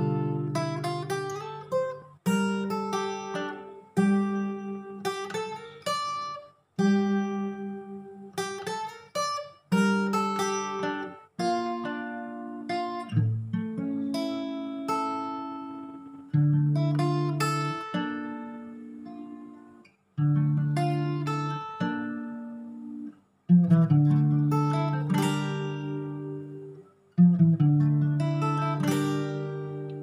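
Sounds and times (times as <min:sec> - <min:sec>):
acoustic guitar fingerpicking: 0:00.0 - 0:30.0.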